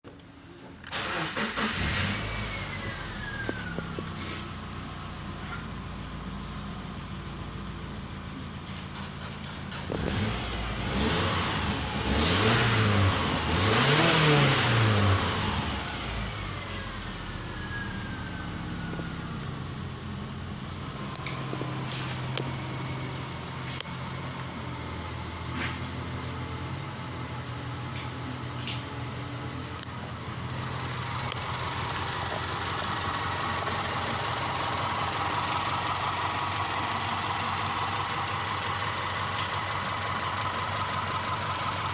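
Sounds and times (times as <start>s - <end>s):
car engine revving and idling: 0.9s - 8.6s, 9.4s - 41.9s.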